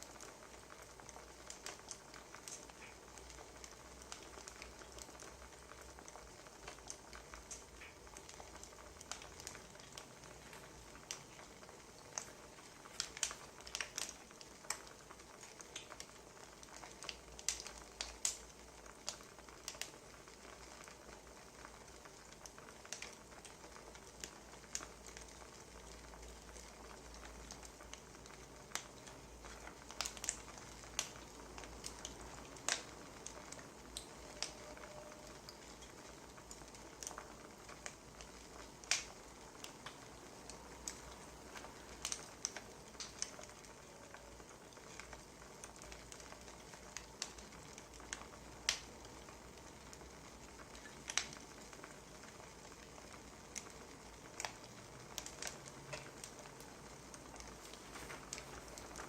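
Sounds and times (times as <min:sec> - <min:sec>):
soft hiss of fire: 0:00.0 - 0:59.0
wood fire popping and snapping: 0:00.0 - 0:59.0.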